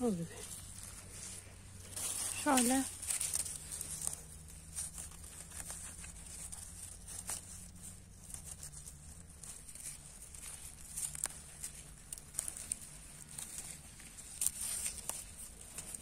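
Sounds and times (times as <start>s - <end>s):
leaves and stems snapping: 0.0s - 16.0s.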